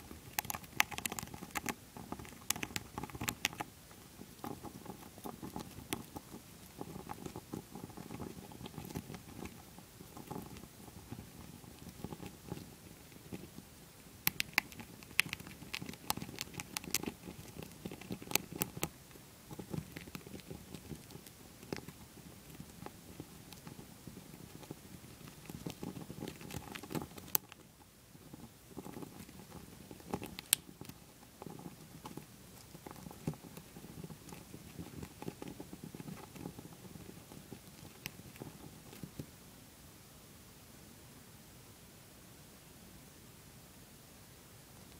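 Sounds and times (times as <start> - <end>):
hamster gnawing peanut: 0.0 - 39.4.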